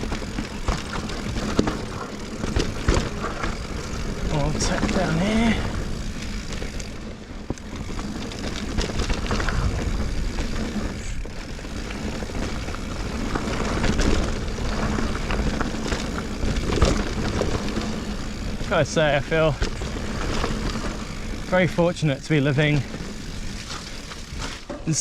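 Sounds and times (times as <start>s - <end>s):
bike frame rattling and knocking: 0.0s - 25.0s
bike tyre noise on dirt: 0.0s - 25.0s.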